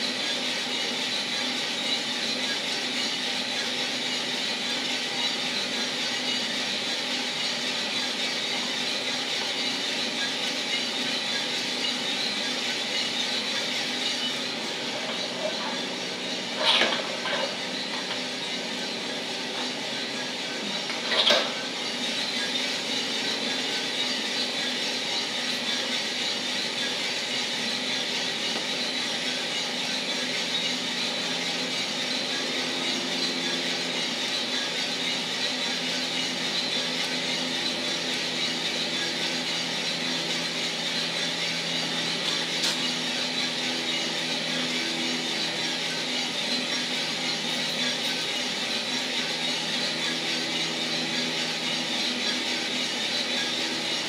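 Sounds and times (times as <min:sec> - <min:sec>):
coffee roaster motor and fan hum: 0:00.0 - 0:54.0.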